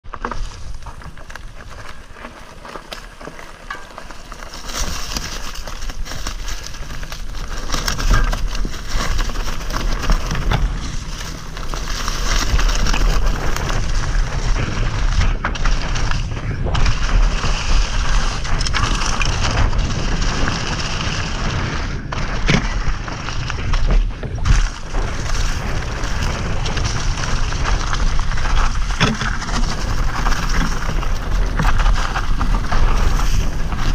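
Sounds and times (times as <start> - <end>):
bike knocking and rattling: 0.0 - 33.9
tyres crunching over leaves: 0.0 - 33.9
wind on microphone: 5.2 - 33.9.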